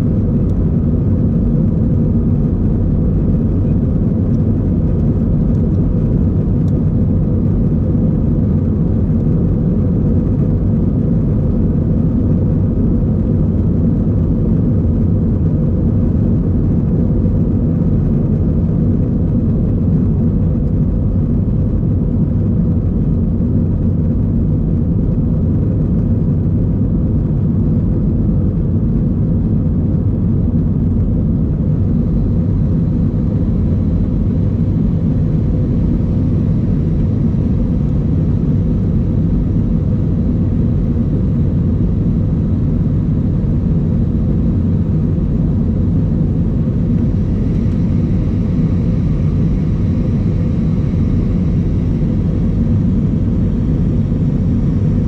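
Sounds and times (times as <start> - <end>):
jet engines and rushing air: 0.0 - 55.0.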